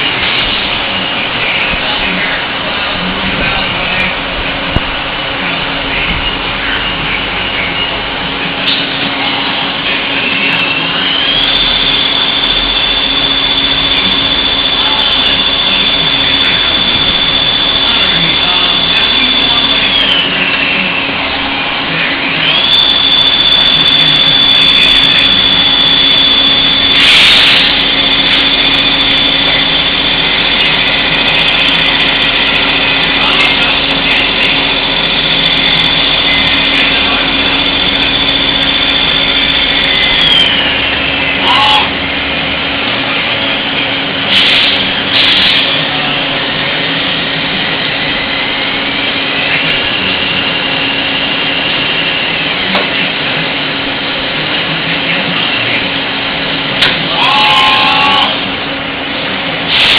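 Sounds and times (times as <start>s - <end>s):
high machine whine: 0.0s - 59.9s
steady machine hum: 0.0s - 59.9s.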